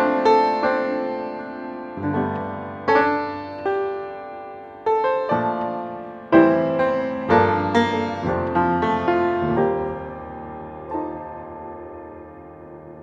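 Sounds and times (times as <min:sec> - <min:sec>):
slow gentle piano: 0:00.0 - 0:13.0.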